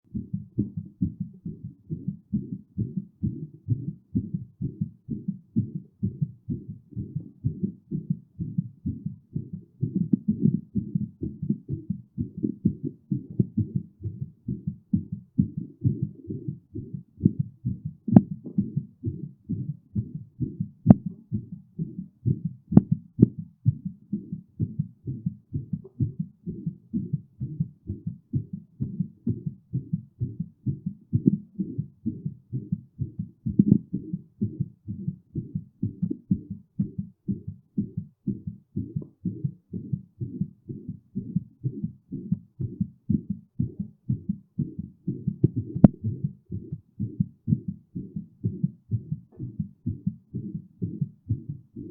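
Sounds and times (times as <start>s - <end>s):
heartbeat thudding fast: 0.0s - 51.9s.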